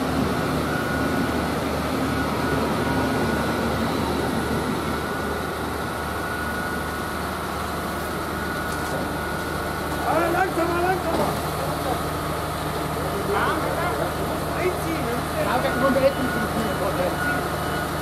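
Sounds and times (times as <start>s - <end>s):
hydraulic pump drone and whine: 0.0s - 18.0s.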